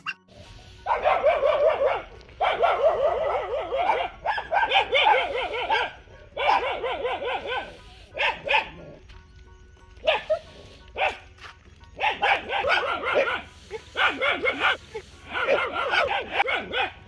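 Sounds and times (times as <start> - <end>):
dog yapping: 0.0 - 0.3, 0.9 - 9.0, 10.0 - 10.4, 12.0 - 17.0.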